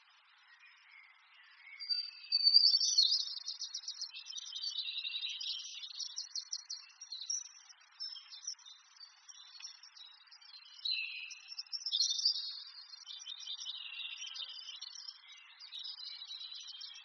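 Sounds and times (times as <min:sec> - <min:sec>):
small birds chirping and trilling: 0:00.0 - 0:17.0.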